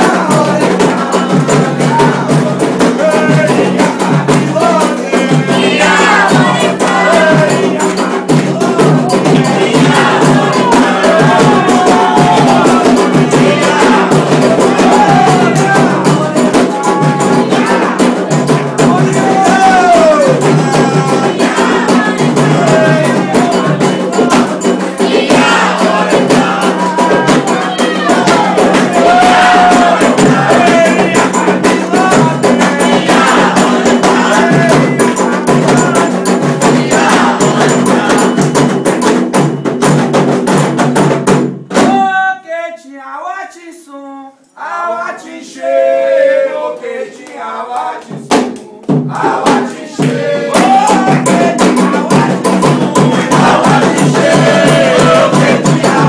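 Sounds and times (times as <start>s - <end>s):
hand drumming: 0.0s - 42.1s, 46.6s - 56.0s
group call-and-response chanting: 0.0s - 42.7s, 43.7s - 56.0s.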